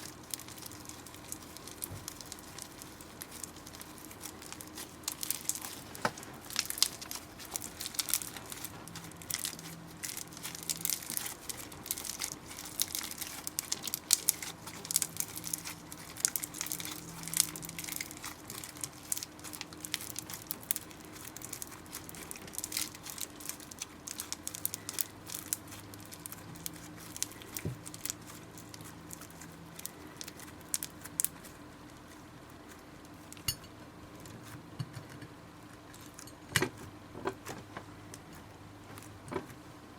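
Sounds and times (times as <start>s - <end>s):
slime clicking and crackling: 0.0s - 34.6s, 35.7s - 39.3s
faint steady hum: 0.0s - 39.9s.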